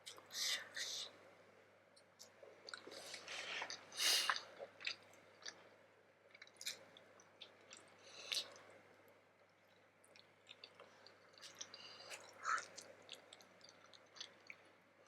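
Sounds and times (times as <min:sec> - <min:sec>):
chewing food close-up: 0:02.0 - 0:08.8, 0:09.4 - 0:14.8.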